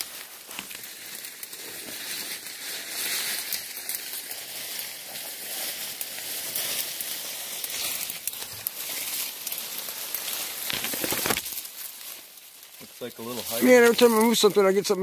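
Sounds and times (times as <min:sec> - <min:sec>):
brush crackling and rustling: 0:00.0 - 0:15.0
person walking through undergrowth: 0:00.0 - 0:15.0.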